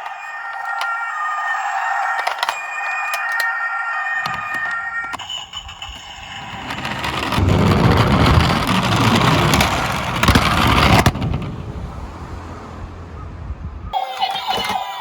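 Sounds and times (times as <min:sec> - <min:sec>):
toy car rolling down track: 0:00.0 - 0:11.6, 0:14.0 - 0:15.0.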